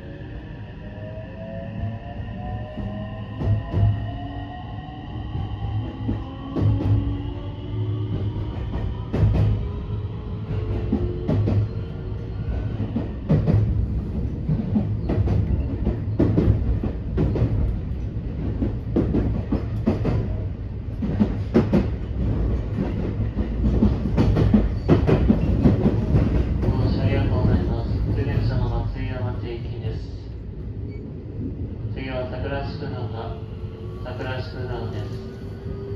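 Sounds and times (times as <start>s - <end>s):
train wheels and motors rumbling: 5.2s - 35.9s.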